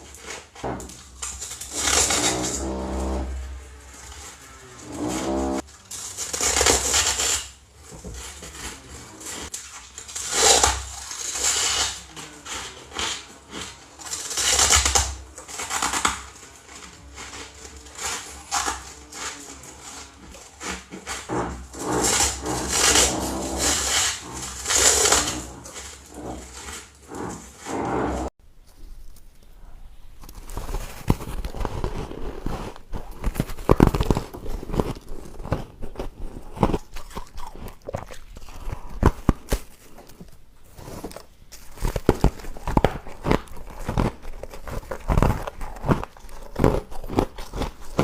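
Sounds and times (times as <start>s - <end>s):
ice crunching in mouth: 0.0s - 27.6s, 30.1s - 48.0s
grinding chews: 0.0s - 29.5s, 30.2s - 48.0s.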